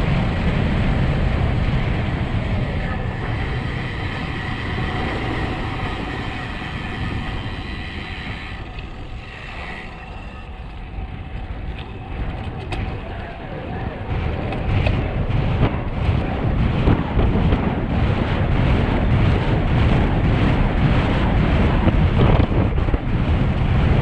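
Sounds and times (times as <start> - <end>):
tyre noise on asphalt: 0.0 - 24.0
wind rushing over microphone: 0.0 - 24.0.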